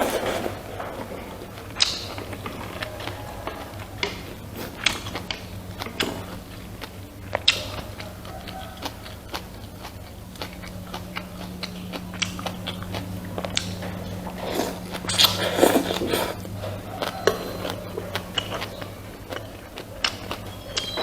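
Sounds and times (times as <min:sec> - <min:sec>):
biting and chewing food: 0:00.0 - 0:21.0
steady low hum: 0:00.0 - 0:21.0.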